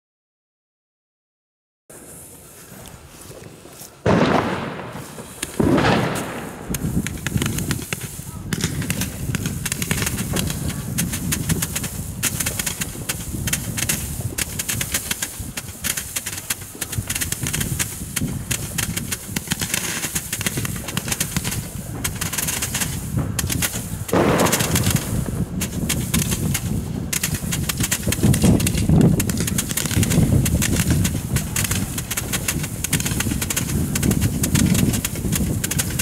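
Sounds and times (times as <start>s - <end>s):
roman candles firing: 3.9s - 36.0s.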